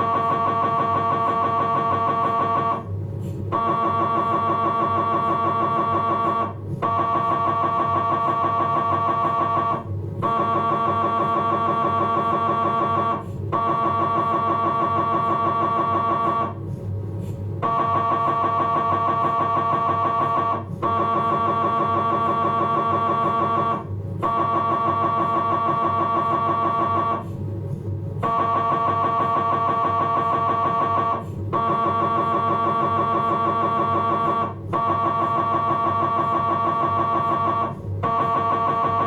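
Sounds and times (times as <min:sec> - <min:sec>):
mri scanner buzzing: 0:00.0 - 0:16.7, 0:17.4 - 0:27.5, 0:28.1 - 0:39.0.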